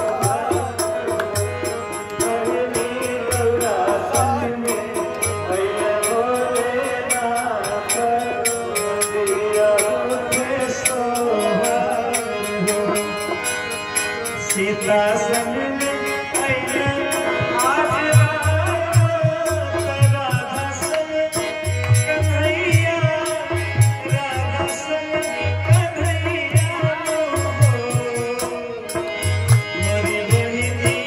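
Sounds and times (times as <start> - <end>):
harmonium chords: 0.0 - 31.0
man singing devotional song: 0.0 - 31.0.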